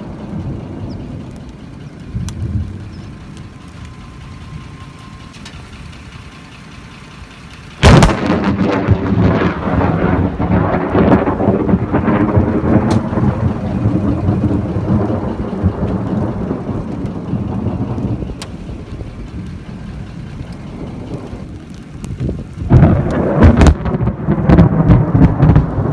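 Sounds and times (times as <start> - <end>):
thunder crack and rumbles: 0.0 - 5.1, 7.8 - 25.9.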